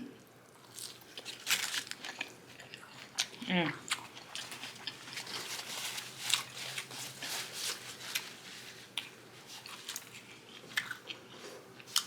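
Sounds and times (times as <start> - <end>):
person chewing food: 0.2 - 12.0.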